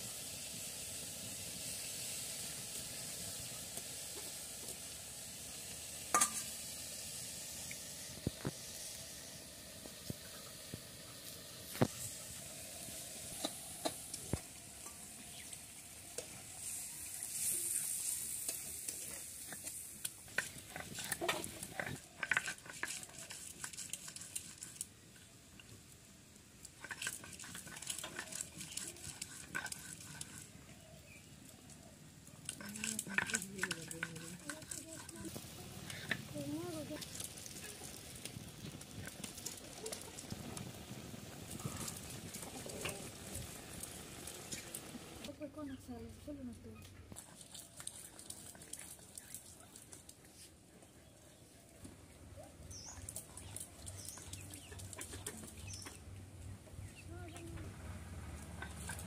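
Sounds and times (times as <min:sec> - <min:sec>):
vegetables sizzling in oil: 0:00.0 - 0:46.1, 0:52.6 - 0:59.0.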